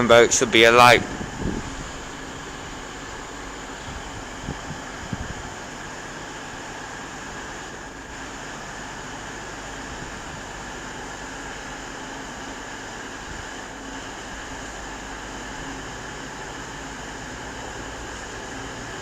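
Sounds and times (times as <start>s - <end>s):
freight train running: 0.0s - 18.9s.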